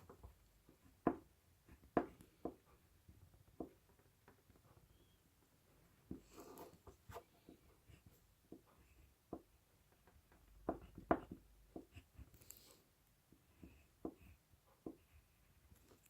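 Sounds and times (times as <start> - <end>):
light taps and knocks: 0.0 - 5.0, 6.0 - 12.4, 13.3 - 15.2.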